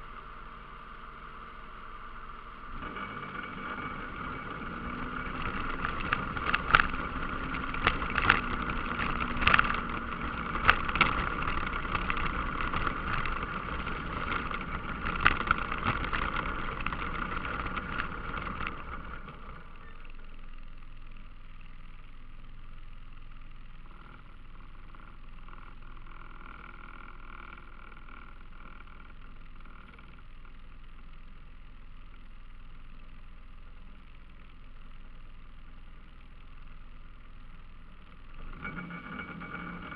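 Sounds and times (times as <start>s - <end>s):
atv engine idling: 0.0s - 39.9s
atv engine running: 0.0s - 39.9s.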